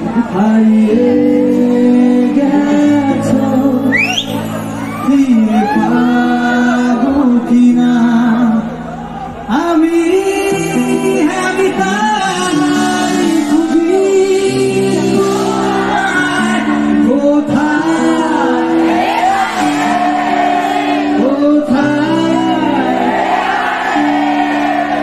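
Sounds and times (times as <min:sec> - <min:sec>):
amplified backing music: 0:00.0 - 0:25.0
man singing into microphone: 0:00.0 - 0:25.0.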